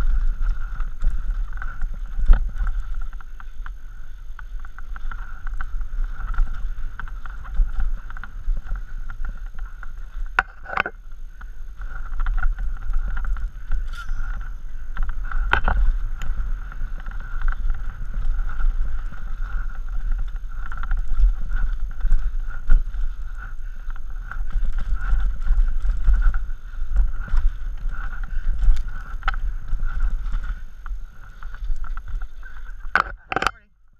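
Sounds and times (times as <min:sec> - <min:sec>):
bike knocking on rocks: 0:00.0 - 0:33.7
bike rattling: 0:00.0 - 0:33.7
bike tyre noise: 0:00.0 - 0:33.7
wind buffeting microphone: 0:00.0 - 0:33.7.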